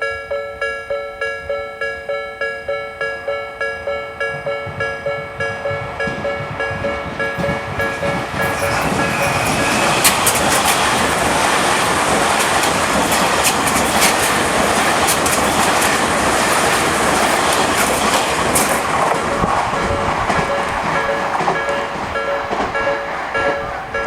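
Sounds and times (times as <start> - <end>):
crossing warning bell: 0.0 - 24.0
electric train passing: 0.0 - 24.0
wheels clacking over rail joints: 3.1 - 24.0.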